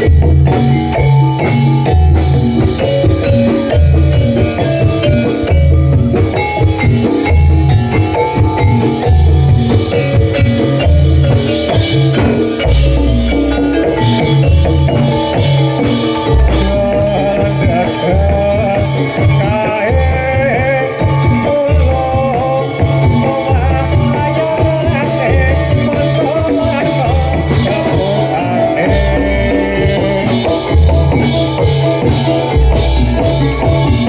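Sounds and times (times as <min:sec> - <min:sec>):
drums playing steady rhythm: 0:00.0 - 0:34.0
ringing metallophones: 0:00.0 - 0:34.0.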